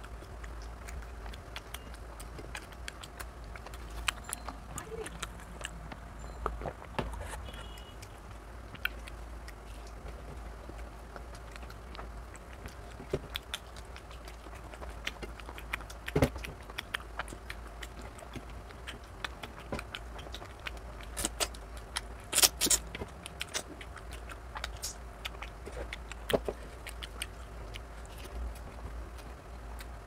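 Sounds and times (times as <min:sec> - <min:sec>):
chewing: 0:00.0 - 0:30.0
low steady hum: 0:00.0 - 0:30.0.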